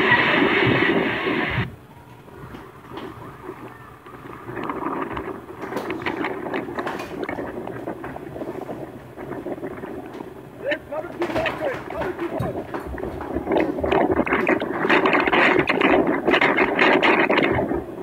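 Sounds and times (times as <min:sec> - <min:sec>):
voices: 0:00.0 - 0:17.8
floodwater rushing: 0:00.0 - 0:18.0
scattered crackles: 0:00.0 - 0:18.0
wind and water noise: 0:00.0 - 0:18.0.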